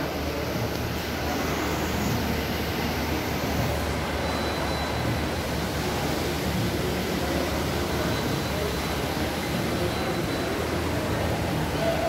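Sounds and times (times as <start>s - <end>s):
large hall background rumble: 0.0s - 12.0s
low mechanical hum: 0.0s - 12.0s.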